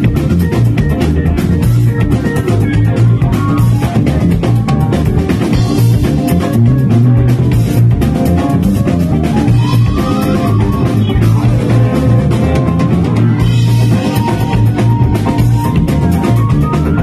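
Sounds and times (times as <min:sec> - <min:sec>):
funk band playing: 0:00.0 - 0:17.0.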